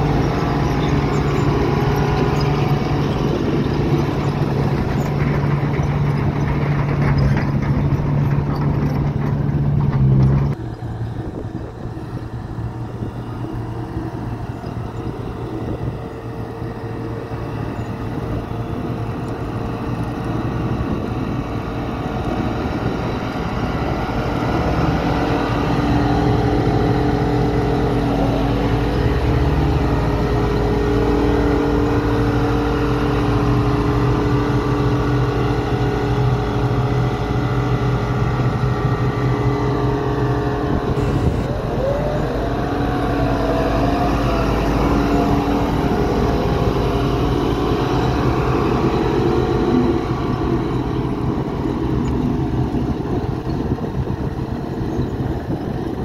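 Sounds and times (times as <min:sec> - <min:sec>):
roller diesel engine running: 0:00.0 - 0:56.0.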